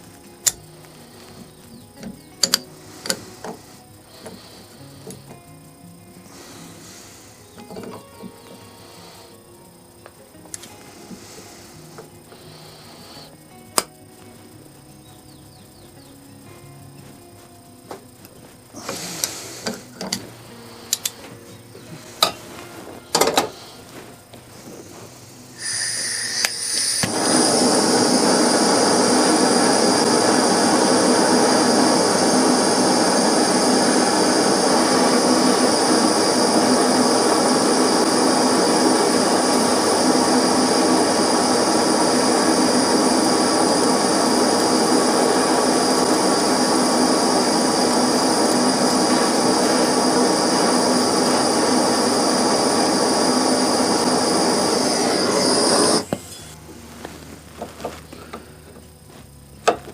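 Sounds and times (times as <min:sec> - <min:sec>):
machine running with high whine: 0:00.0 - 0:59.9.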